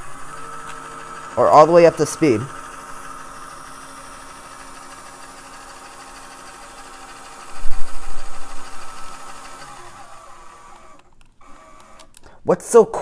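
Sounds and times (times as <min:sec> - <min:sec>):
small electric motor whirring: 0:00.0 - 0:12.3.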